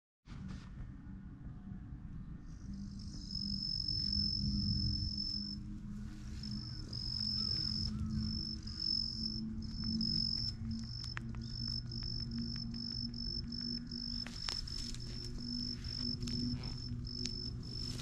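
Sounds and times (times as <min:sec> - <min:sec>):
insect buzzing: 0:02.7 - 0:18.0.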